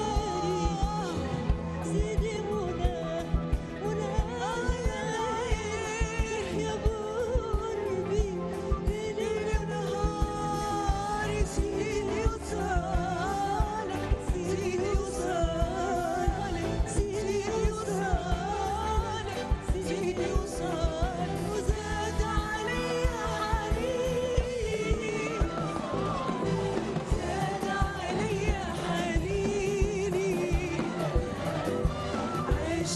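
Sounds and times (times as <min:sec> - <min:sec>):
orchestra accompanying: 0:00.0 - 0:32.9
two women singing: 0:00.0 - 0:32.9.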